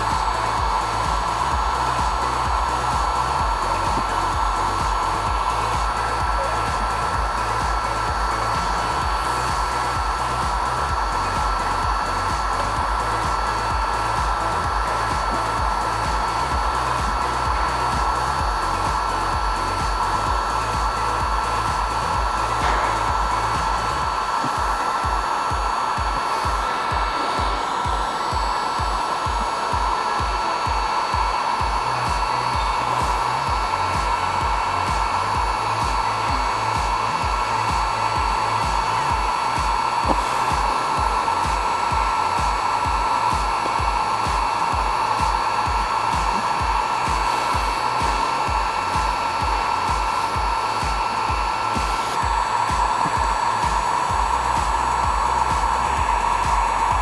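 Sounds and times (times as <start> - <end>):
low pulsing beat: 0.0 - 57.0
whooshing blower noise: 0.0 - 57.0.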